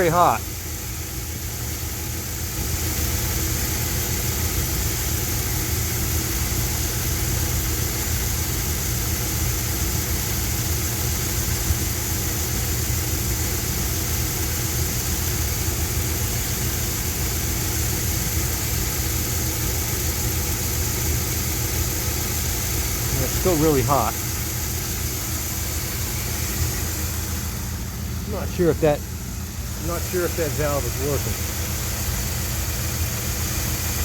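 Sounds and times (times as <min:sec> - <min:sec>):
pickup truck engine idling: 0:00.0 - 0:34.0.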